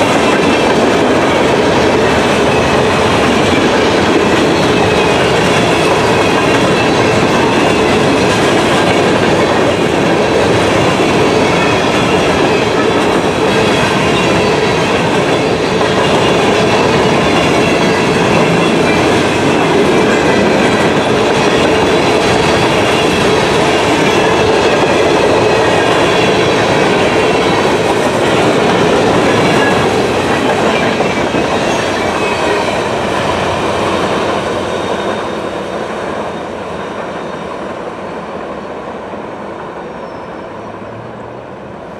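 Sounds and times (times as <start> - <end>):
train wheels rumbling and clattering: 0.0 - 41.9.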